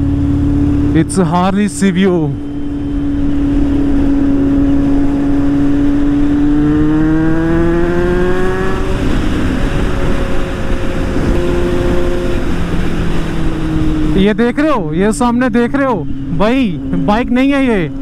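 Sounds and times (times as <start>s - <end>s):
motorcycle engine accelerating: 0.0s - 18.0s
wind and road noise: 0.0s - 18.0s.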